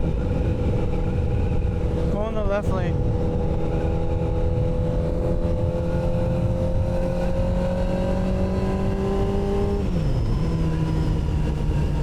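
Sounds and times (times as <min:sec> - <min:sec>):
road and wind rumble: 0:00.0 - 0:12.0
vehicle engine accelerating: 0:00.0 - 0:12.0.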